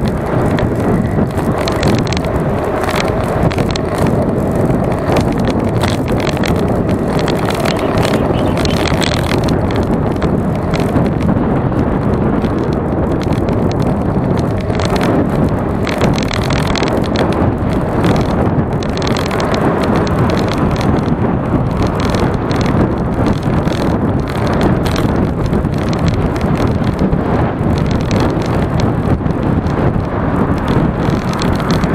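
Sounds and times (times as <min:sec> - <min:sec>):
tyre and road rumble: 0:00.0 - 0:31.9
wind buffeting microphone: 0:00.0 - 0:31.9.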